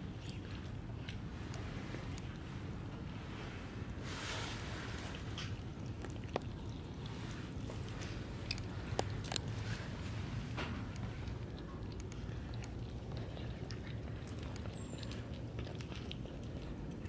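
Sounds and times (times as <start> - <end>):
kittens chewing food: 0.0 - 17.0
low background hum: 0.0 - 17.0.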